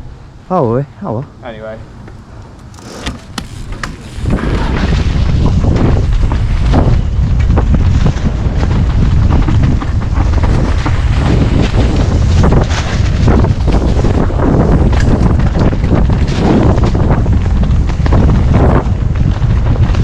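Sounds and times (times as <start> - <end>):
wind buffeting microphone: 2.2 - 20.0.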